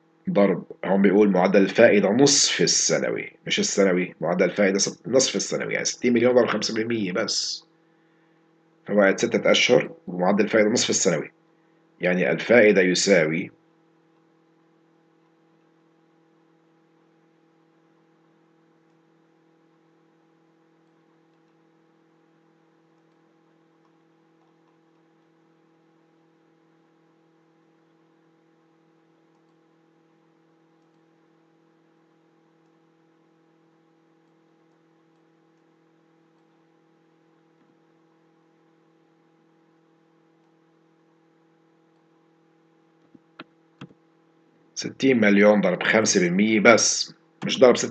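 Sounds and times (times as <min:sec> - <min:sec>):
faint electrical hum and hiss: 0:00.0 - 0:47.9.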